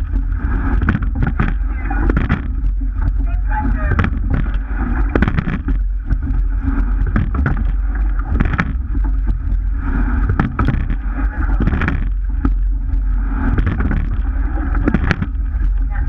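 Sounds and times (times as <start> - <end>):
low rumble: 0.0 - 16.0
water rushing along hull: 0.0 - 16.0
oars knocking: 0.6 - 6.4, 7.0 - 9.5, 10.2 - 12.7, 13.4 - 15.9.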